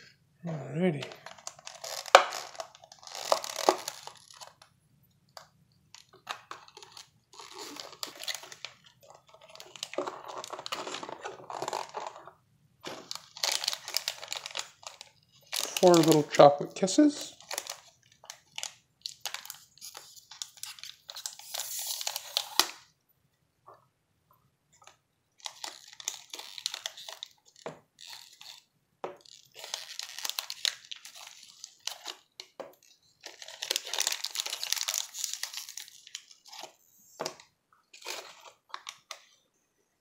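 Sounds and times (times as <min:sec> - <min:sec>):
plastic wrapper crinkling: 0:00.5 - 0:04.7, 0:05.3 - 0:22.9, 0:24.8 - 0:39.4
foil-wrapped candies rustling: 0:00.6 - 0:04.7, 0:05.9 - 0:22.9, 0:24.9 - 0:39.4.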